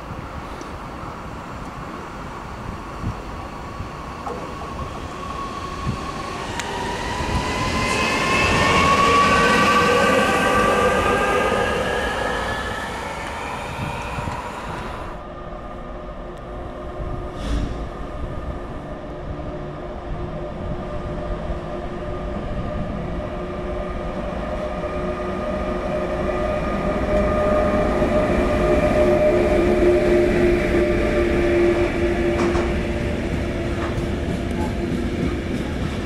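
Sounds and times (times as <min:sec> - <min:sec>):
electric locomotive whine: 0:00.0 - 0:36.0
freight train approaching: 0:00.0 - 0:36.0.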